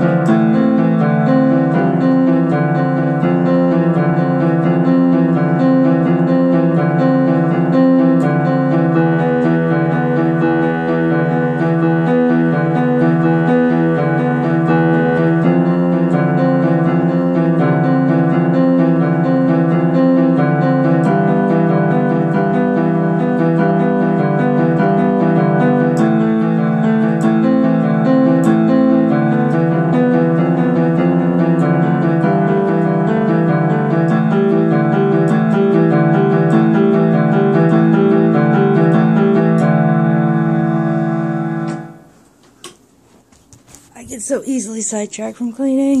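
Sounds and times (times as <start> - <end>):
electronic keyboard chords: 0.0 - 42.4.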